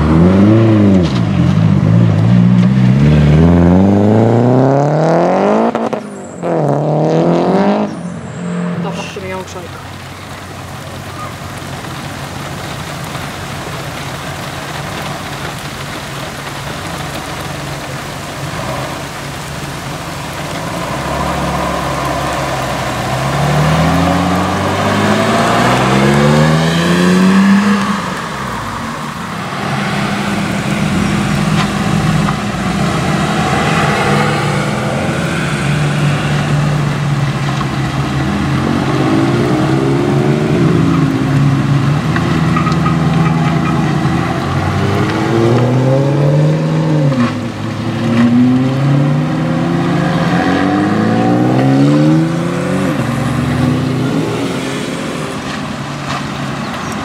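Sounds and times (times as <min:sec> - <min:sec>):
car engine accelerating: 0:00.0 - 0:15.7, 0:16.4 - 0:57.0
car engines running steadily: 0:00.0 - 0:57.0
tyre hiss on wet road: 0:04.8 - 0:57.0.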